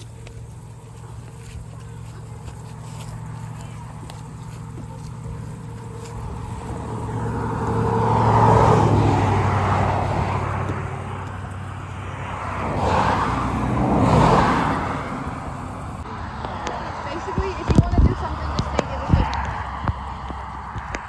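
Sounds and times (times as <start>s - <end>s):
atv engines running: 0.0s - 21.0s.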